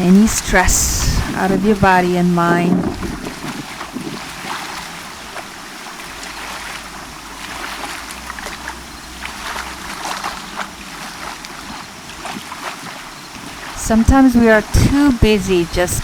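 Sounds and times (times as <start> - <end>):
water lapping at shore: 0.0 - 16.0.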